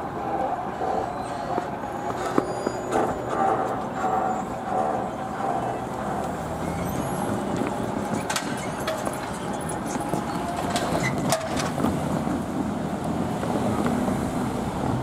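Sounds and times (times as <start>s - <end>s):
cars driving over rail crossing: 1.5s - 15.0s.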